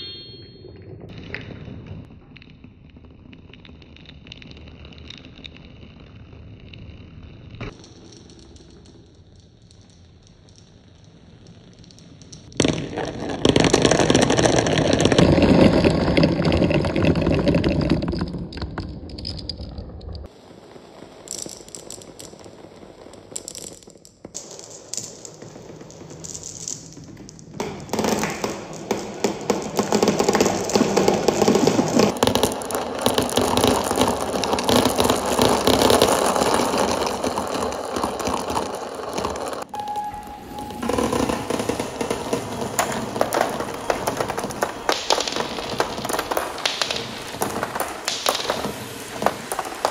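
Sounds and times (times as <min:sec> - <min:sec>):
marbles rattling along tracks: 0:07.7 - 0:20.3, 0:20.9 - 0:39.8, 0:40.6 - 0:49.9.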